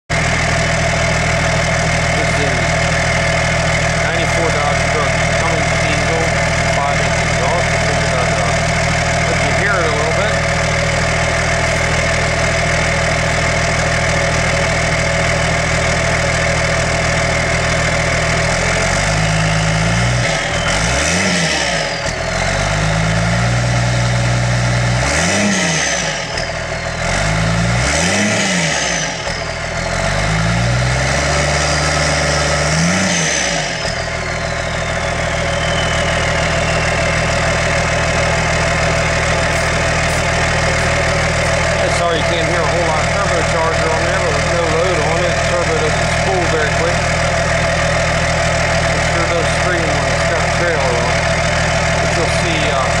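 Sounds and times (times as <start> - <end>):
diesel engine idling and revving: 0.0 - 53.0
turbocharger whistle: 1.4 - 13.5, 17.6 - 53.0.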